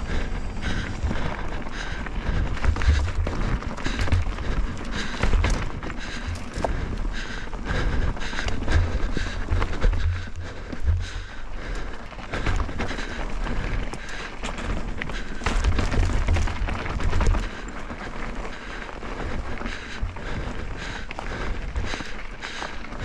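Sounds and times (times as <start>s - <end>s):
bike rattling over rocks: 0.0s - 23.0s.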